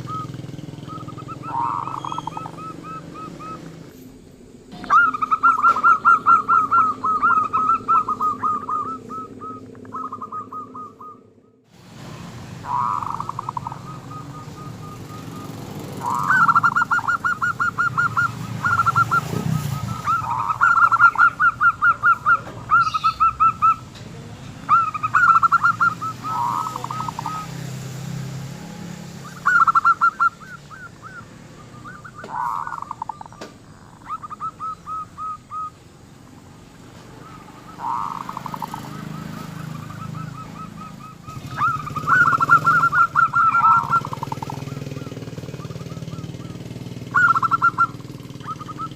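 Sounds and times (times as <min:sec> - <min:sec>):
dove cooing: 0:00.0 - 0:11.6, 0:12.6 - 0:28.4, 0:29.2 - 0:48.9.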